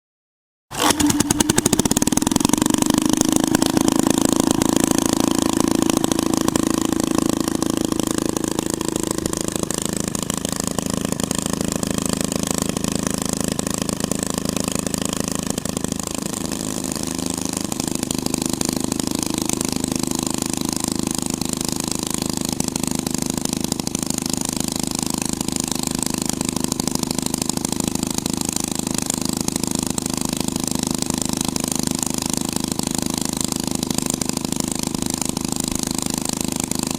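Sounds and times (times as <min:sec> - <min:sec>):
car engine idling: 0:00.8 - 0:36.9.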